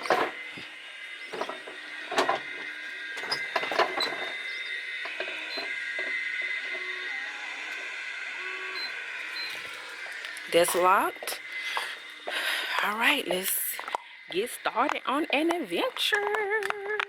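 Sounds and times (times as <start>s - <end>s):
high-pitched drone: 0.0s - 17.0s.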